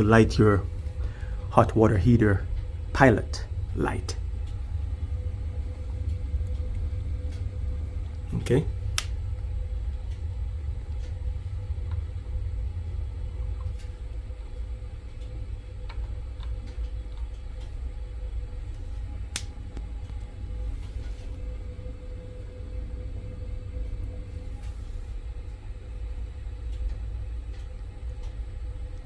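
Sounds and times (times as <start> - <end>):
faint hum: 0.0 - 29.0
gas burner rumbling: 0.0 - 29.0.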